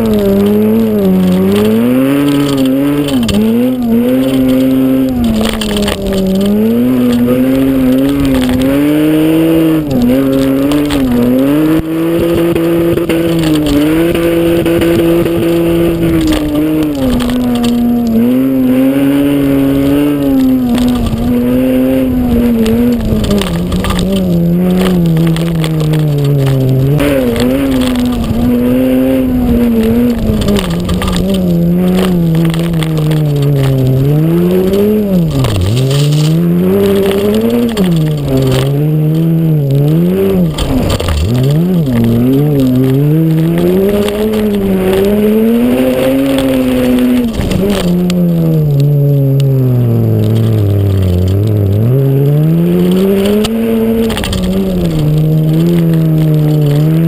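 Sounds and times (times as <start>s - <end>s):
car engine racing: 0.0s - 57.0s
gravel rushing: 0.0s - 57.0s.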